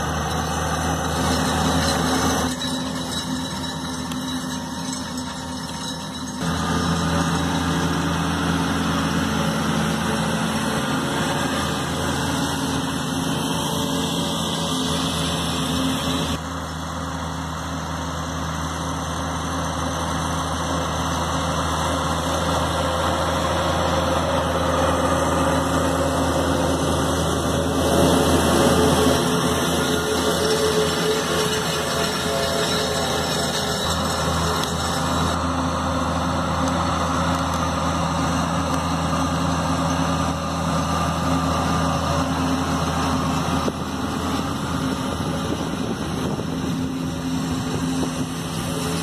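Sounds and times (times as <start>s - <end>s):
tractor diesel engine under load: 0.0s - 49.0s.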